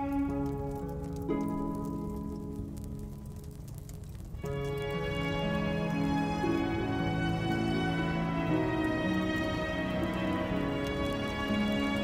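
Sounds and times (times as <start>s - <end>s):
slow sad instrumental music: 0.0s - 12.0s.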